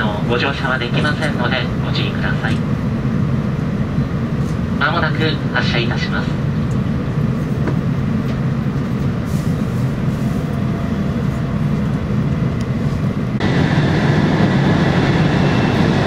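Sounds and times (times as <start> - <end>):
train interior low rumble: 0.0 - 16.0
train running noise: 0.0 - 16.0.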